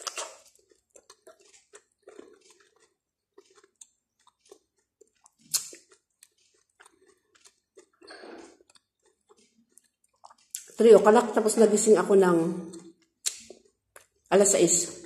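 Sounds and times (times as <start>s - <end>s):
person chewing with mouth clicks: 0.0s - 10.8s, 12.6s - 14.3s.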